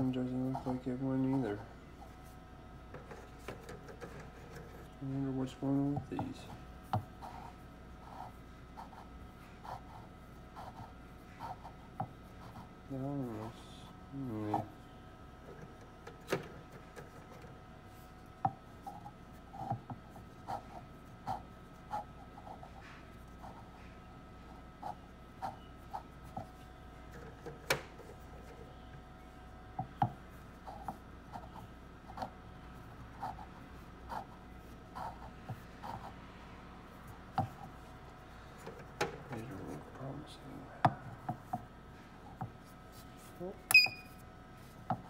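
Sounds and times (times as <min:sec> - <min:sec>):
incubator hum: 0:00.0 - 0:45.0.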